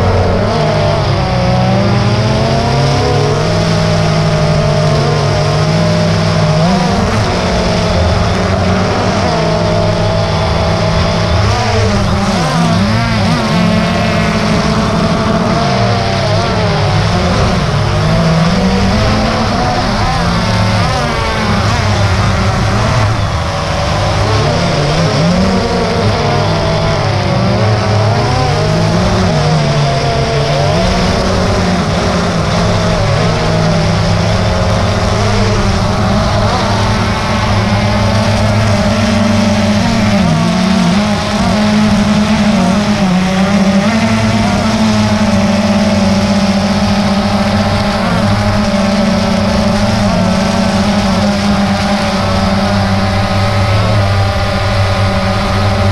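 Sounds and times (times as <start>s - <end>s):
drone propellers whirring: 0.0s - 55.9s.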